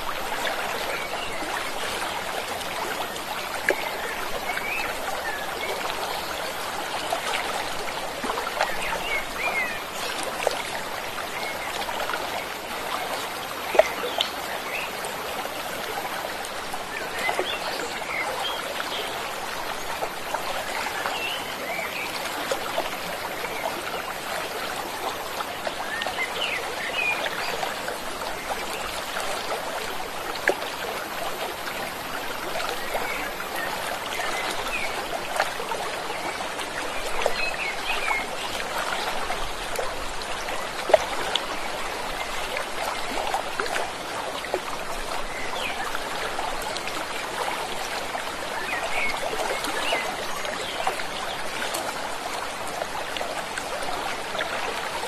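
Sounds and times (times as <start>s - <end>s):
stream gurgling: 0.0s - 55.0s.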